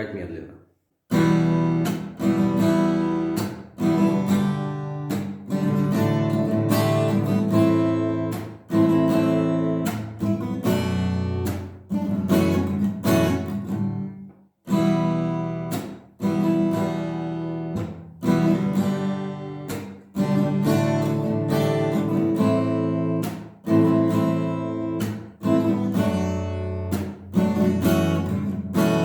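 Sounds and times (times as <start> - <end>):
acoustic guitar strummed slowly: 1.1 - 29.0.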